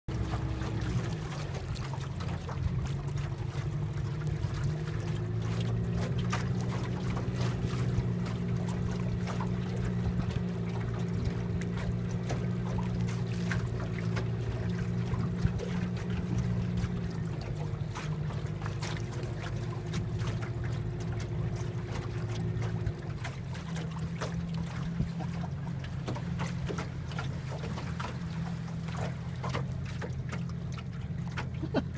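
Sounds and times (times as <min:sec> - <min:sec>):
boat motor humming: 0:00.1 - 0:31.9
water lapping at hull: 0:00.1 - 0:31.9.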